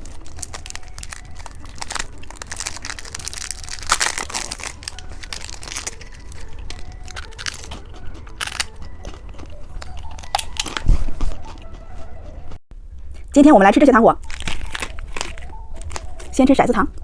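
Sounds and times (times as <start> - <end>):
plastic candy wrappers crinkling: 0.0 - 11.7, 14.2 - 17.0.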